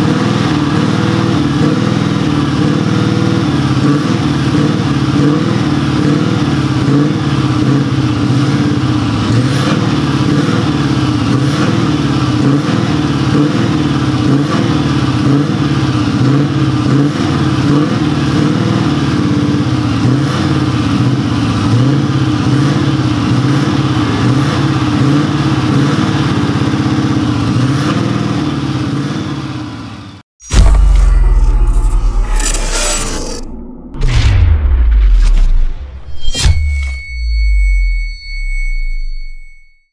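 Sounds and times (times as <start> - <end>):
diesel truck engine running: 0.0 - 32.6.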